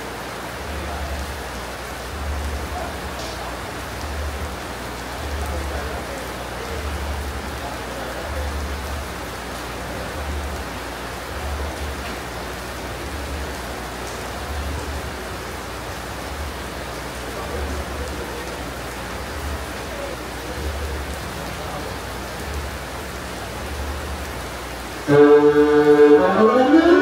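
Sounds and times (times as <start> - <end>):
rain on a tent roof: 0.0 - 27.0.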